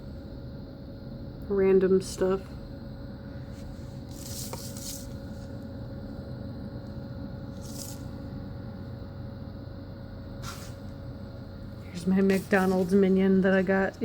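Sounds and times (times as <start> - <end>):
faint constant tone: 0.0 - 14.0
low room hum: 0.0 - 14.0.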